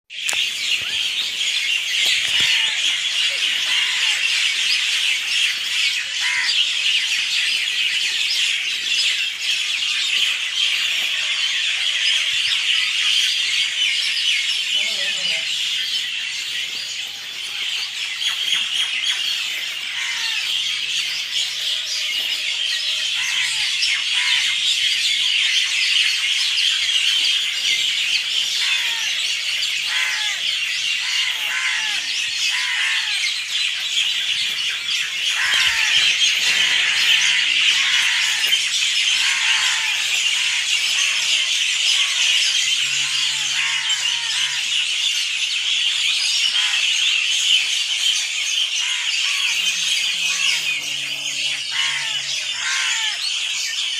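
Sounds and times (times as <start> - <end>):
many birds chirping: 0.1 - 53.9.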